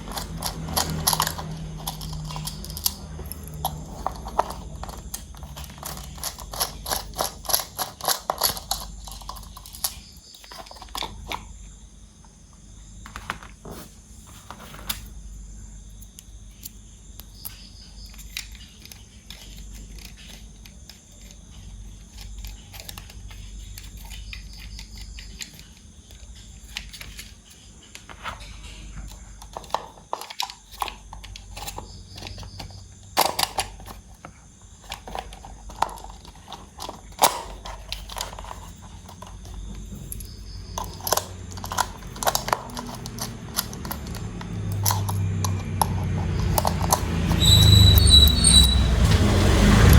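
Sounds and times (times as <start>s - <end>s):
hard plastic toy parts clicking: 0.0s - 11.5s, 16.1s - 48.0s.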